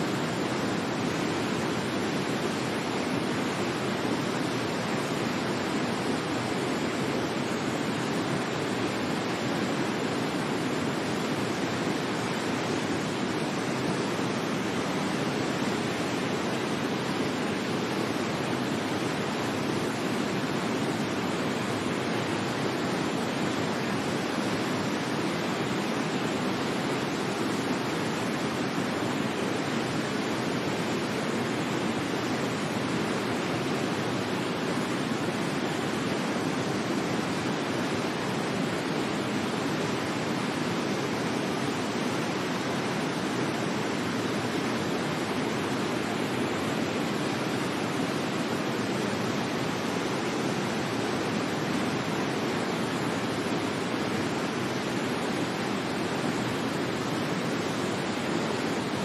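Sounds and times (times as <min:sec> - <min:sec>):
waterfall rushing: 0:00.1 - 0:59.0.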